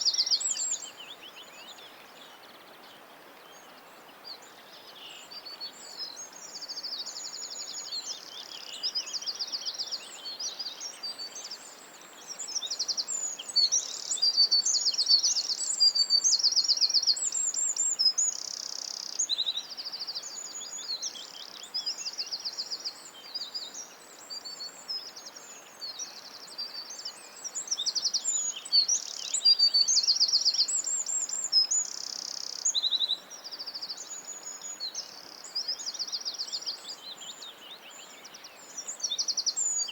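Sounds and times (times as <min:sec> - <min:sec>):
faint steady background hiss: 0:00.0 - 0:39.9
songbirds singing: 0:00.0 - 0:39.9.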